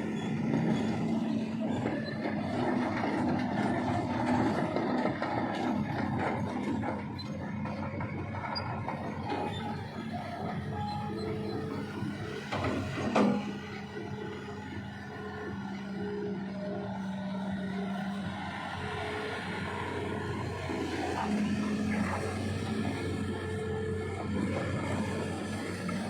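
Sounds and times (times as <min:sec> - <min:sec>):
rumbling road noise: 0:00.0 - 0:26.0
vehicle engines humming: 0:00.0 - 0:26.0.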